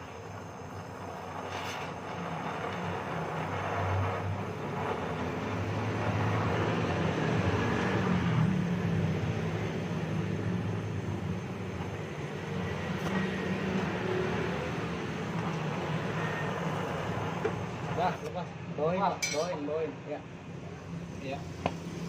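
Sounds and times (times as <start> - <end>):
welding torch flame hissing: 0.0 - 22.0.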